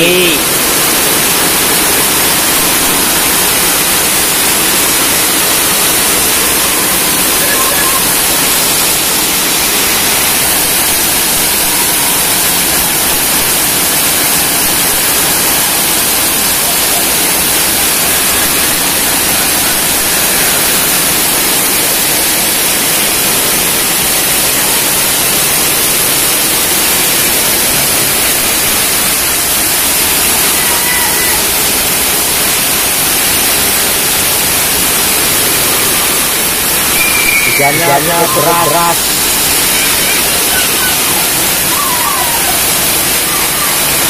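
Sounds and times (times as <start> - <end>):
rain pouring on concrete: 0.0 - 44.0.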